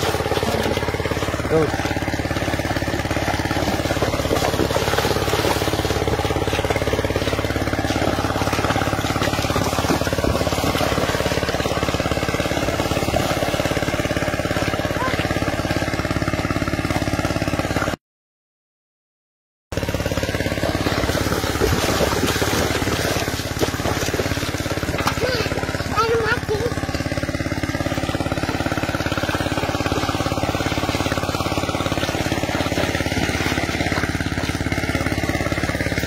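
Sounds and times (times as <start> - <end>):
engine running steadily: 0.0 - 18.0, 19.7 - 36.0.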